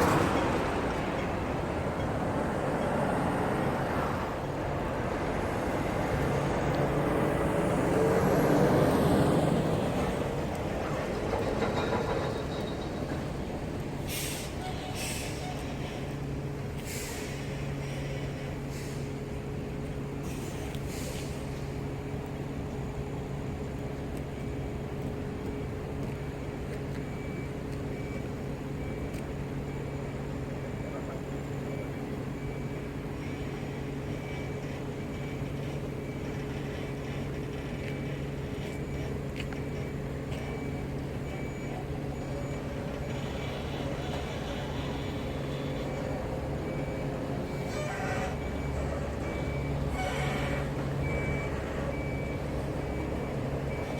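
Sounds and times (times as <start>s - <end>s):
vehicle engine humming: 0.0s - 53.9s.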